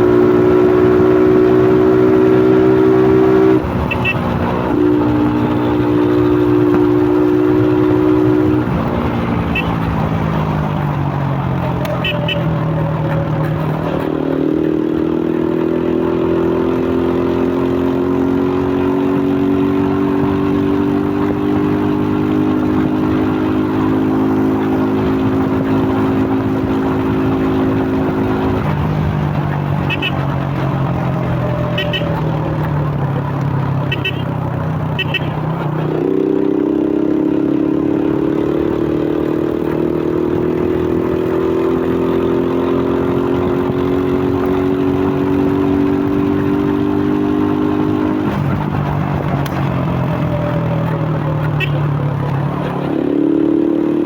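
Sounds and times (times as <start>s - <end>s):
motorcycle engine under throttle: 0.0s - 54.0s.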